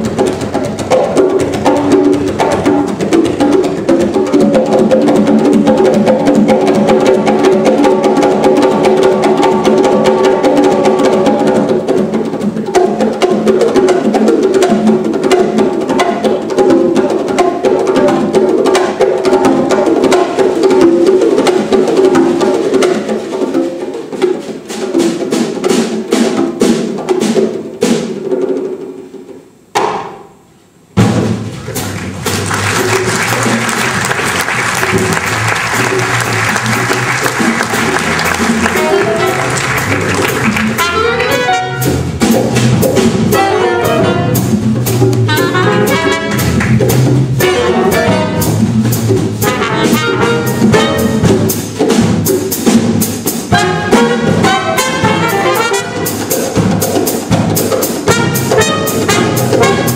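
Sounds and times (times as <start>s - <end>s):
jazz big band playing: 0.0s - 28.2s, 30.8s - 59.9s
conga and bongo hand strikes: 0.0s - 30.4s, 31.0s - 59.9s.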